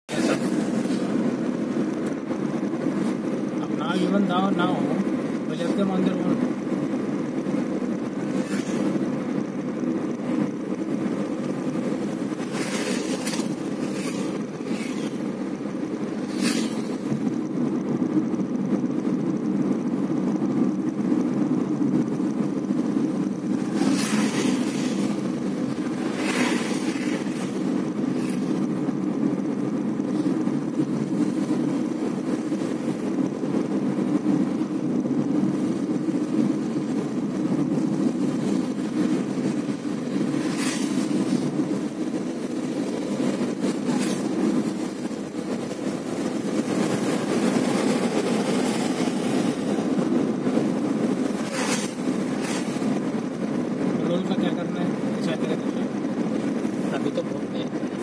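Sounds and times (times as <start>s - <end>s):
engine and tyre drone: 0.0s - 58.0s.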